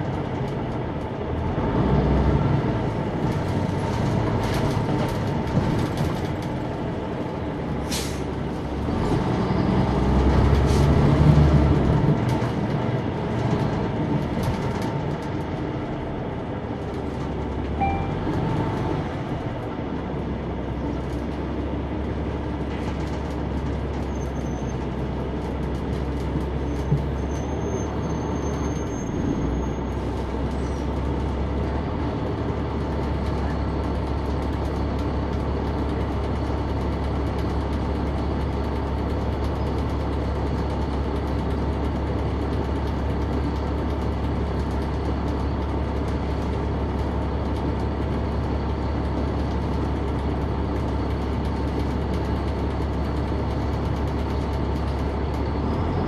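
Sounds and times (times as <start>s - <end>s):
bus diesel engine rumble: 0.0s - 56.0s.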